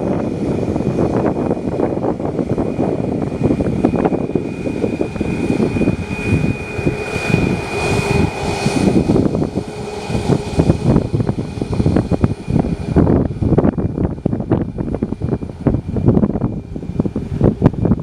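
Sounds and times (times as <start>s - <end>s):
airliner engine whine: 0.0s - 18.0s
low engine hum: 0.0s - 18.0s
low rumble: 0.0s - 18.0s.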